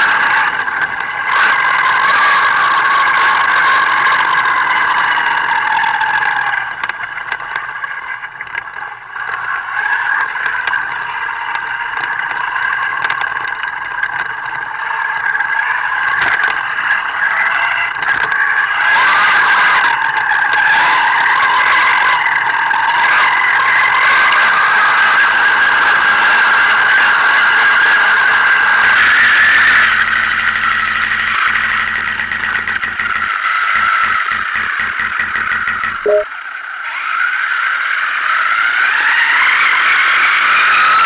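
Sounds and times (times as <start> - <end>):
rc car motor whining: 0.0 - 36.0.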